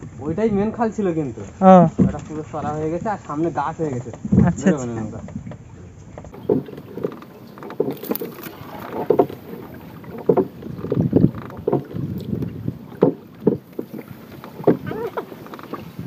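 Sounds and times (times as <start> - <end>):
oars splashing and knocking hull: 0.0 - 16.0.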